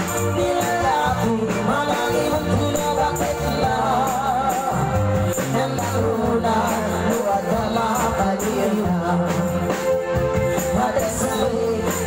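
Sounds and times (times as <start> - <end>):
bass line: 0.0 - 12.0
drums: 0.0 - 12.0
woman singing: 0.1 - 9.8, 10.6 - 12.0.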